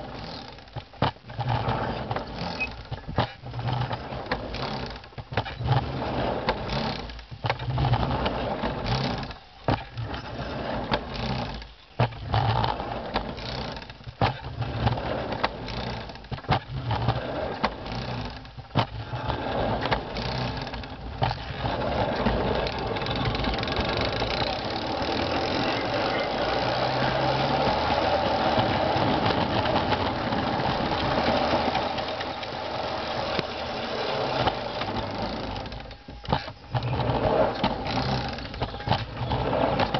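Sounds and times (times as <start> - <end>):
hand car wheels clicking on rails: 0.0 - 39.9.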